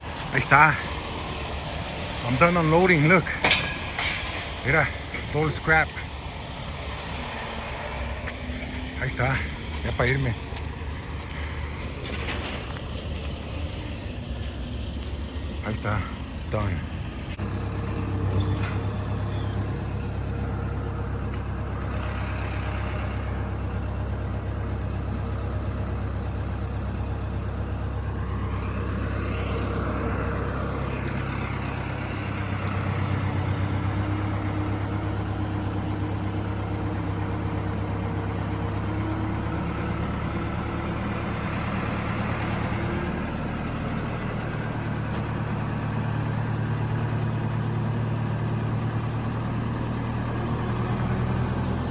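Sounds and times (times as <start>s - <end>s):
heavy truck engine running: 0.0s - 51.9s.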